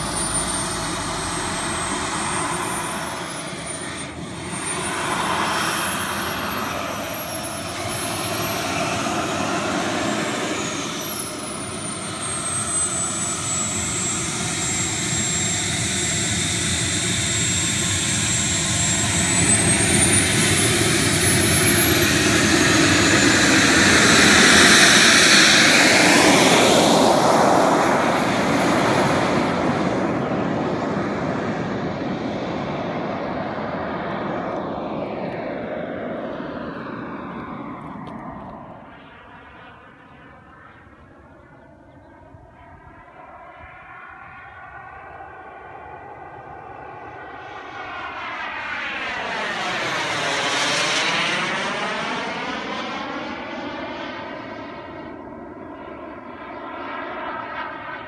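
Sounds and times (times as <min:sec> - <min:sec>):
small jet turbine whine: 0:00.0 - 0:58.0.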